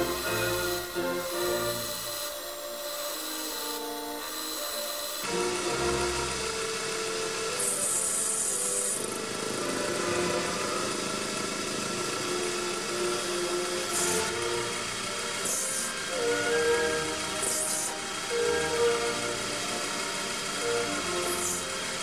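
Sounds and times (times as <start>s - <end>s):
high hiss of lathe cutting: 0.0s - 22.0s
lathe running: 0.0s - 22.0s
orchestral music: 0.0s - 22.0s.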